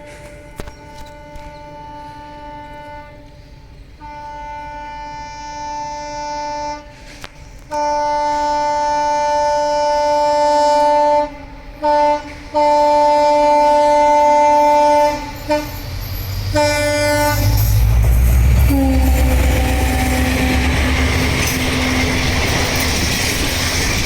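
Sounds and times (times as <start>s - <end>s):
locomotive horn blasts: 0.0s - 3.4s, 4.0s - 15.9s, 16.5s - 22.3s.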